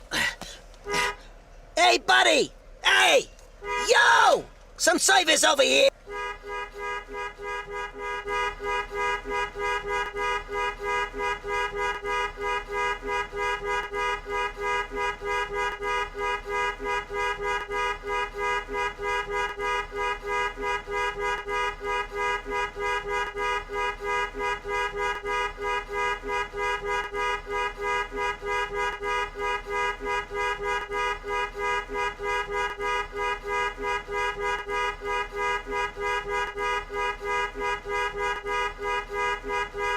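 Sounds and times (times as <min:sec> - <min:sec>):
car horn short blasts: 0:00.8 - 0:01.2, 0:03.6 - 0:04.0, 0:05.6 - 0:39.9.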